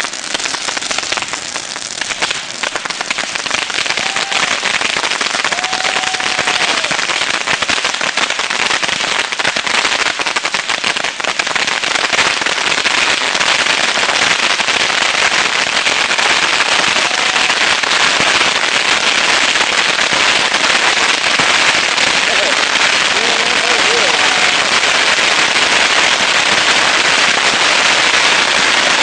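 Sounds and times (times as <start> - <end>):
bottle rockets crackling hiss: 0.0 - 29.0.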